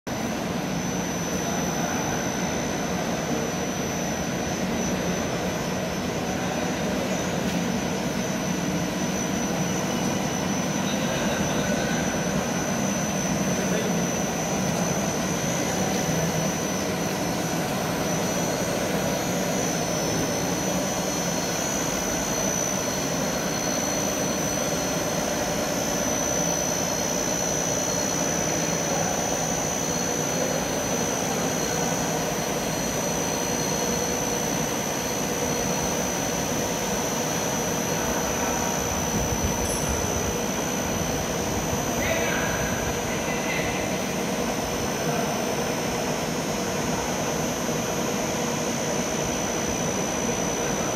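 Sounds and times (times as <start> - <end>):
high-pitched machine whine: 0.1 - 50.9.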